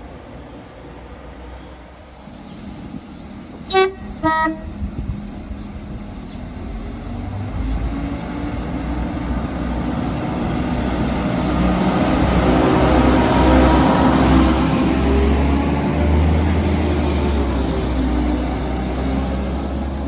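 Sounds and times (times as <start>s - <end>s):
train approaching: 0.0s - 20.0s
train engine tones: 1.3s - 20.0s.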